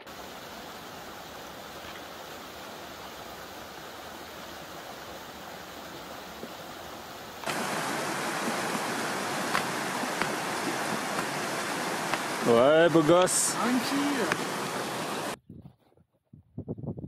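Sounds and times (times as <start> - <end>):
stream rushing over rocks: 0.0 - 15.4.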